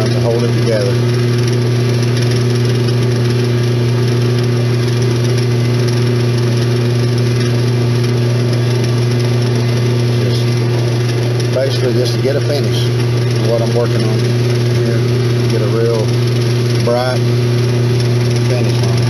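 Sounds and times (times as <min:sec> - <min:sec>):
metal lathe humming: 0:00.0 - 0:19.0.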